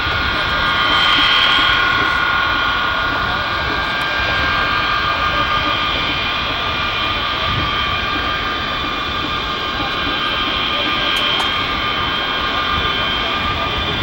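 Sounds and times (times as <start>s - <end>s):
jet engines whining and rumbling: 0.0s - 14.0s.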